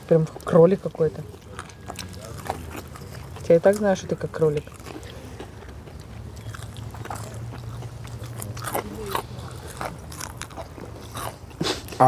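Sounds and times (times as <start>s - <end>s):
crunching fried chicken: 1.2s - 12.0s.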